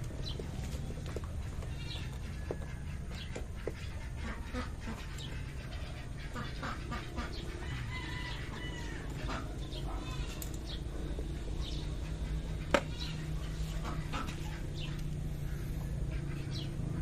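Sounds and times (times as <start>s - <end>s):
poultry calling: 0.2s - 17.0s.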